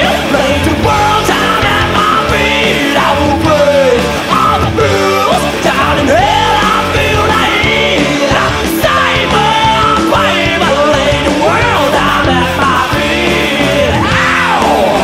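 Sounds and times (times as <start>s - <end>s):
hard rock band playing: 0.0s - 15.0s
pitch-bending lead guitar line: 0.0s - 15.0s.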